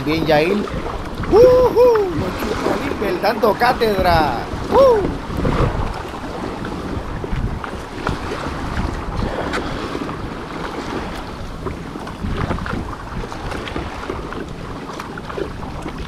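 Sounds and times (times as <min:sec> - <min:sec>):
water sloshing and splashing: 0:00.0 - 0:16.0
wind buffeting microphone: 0:00.0 - 0:16.0.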